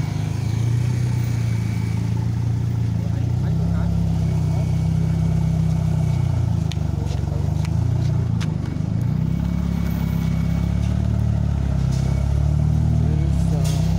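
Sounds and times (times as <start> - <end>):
large engine idling: 0.0 - 13.9.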